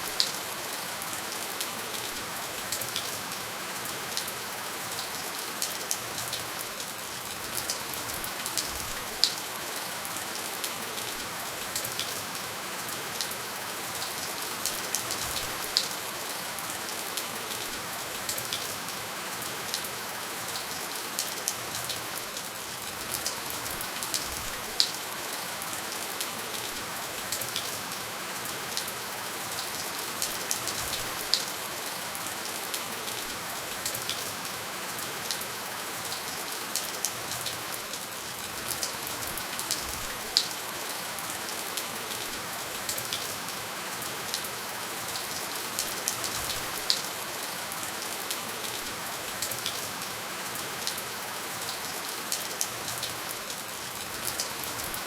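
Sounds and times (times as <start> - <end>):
steady gentle rainfall: 0.0 - 55.0.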